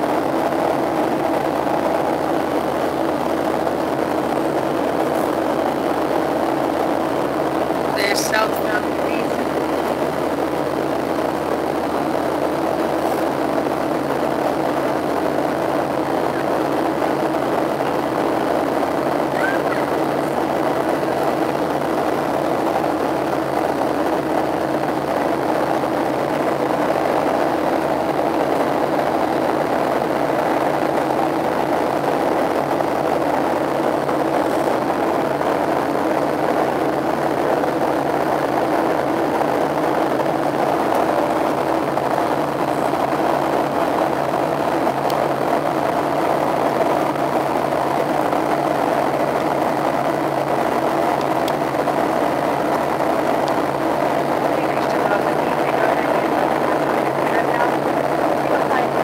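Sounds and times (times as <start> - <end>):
jet engines droning: 0.0 - 59.0
rushing airflow: 0.0 - 59.0.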